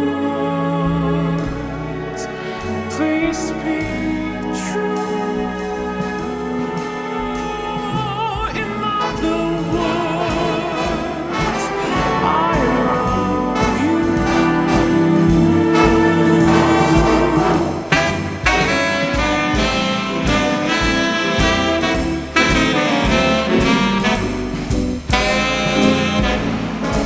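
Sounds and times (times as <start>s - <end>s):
slow instrumental jazz band: 0.0s - 27.0s.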